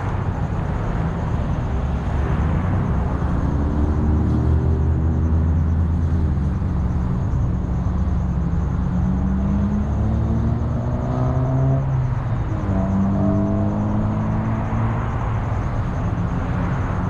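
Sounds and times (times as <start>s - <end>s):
road rumble: 0.0s - 17.0s
car engine accelerating: 1.8s - 17.0s.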